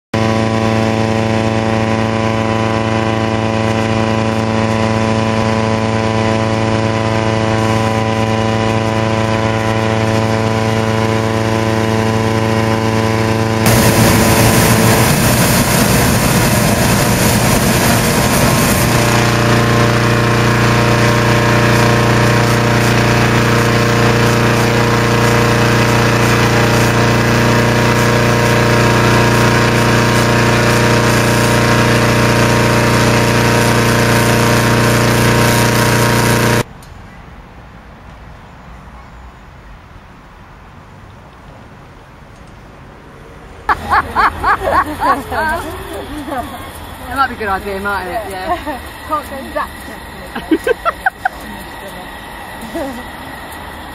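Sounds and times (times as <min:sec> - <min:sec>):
engine-driven fan running: 0:00.1 - 0:36.7, 0:43.6 - 0:53.9.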